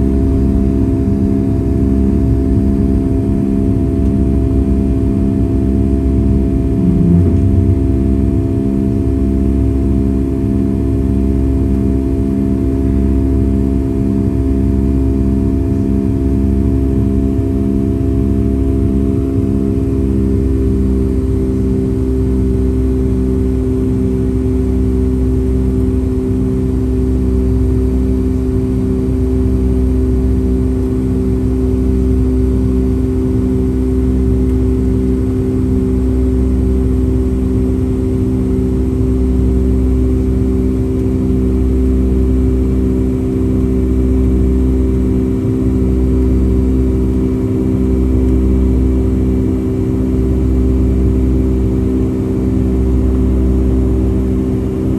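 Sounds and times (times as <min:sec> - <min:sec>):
jet engines droning in cabin: 0:00.0 - 0:54.9.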